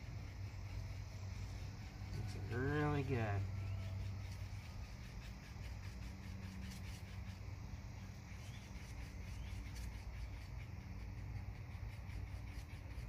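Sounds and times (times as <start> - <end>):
low background rumble: 0.0 - 13.0
toothpick scraping while stirring: 0.0 - 13.0.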